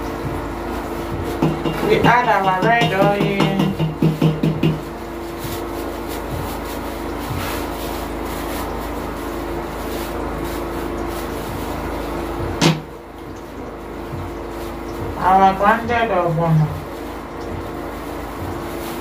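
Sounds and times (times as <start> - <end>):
petrol generator humming: 0.0 - 19.0.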